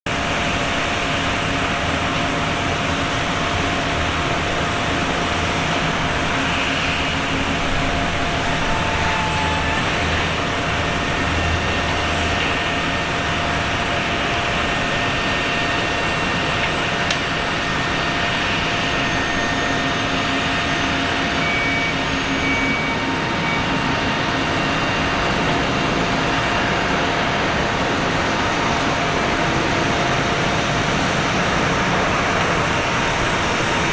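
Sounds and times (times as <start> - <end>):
faint steady whine: 0.1 - 33.9
jet airliner engine rush: 0.1 - 33.9.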